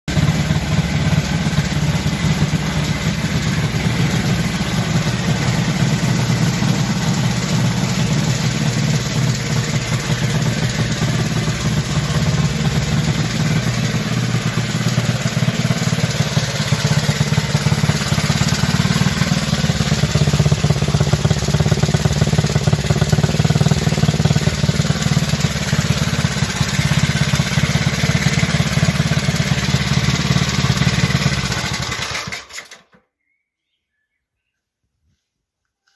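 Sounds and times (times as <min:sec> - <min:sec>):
motorcycle engine idling: 0:00.1 - 0:32.5.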